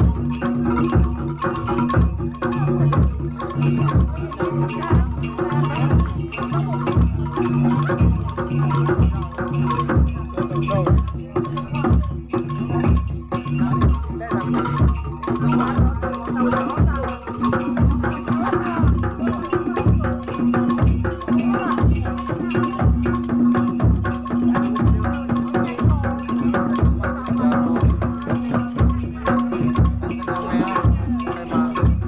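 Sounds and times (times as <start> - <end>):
bass drum beats: 0.0 - 32.0
clattering percussion: 0.0 - 32.0.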